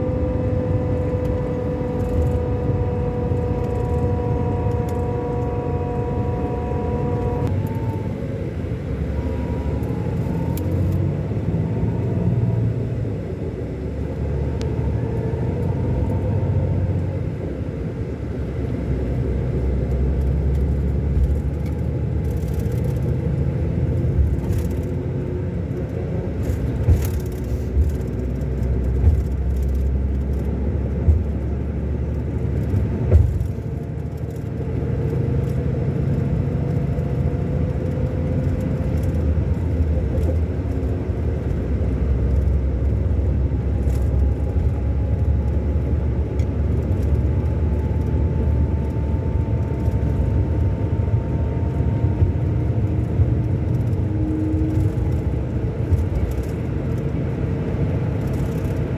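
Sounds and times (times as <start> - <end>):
coach engine rumbling: 0.9 - 58.9.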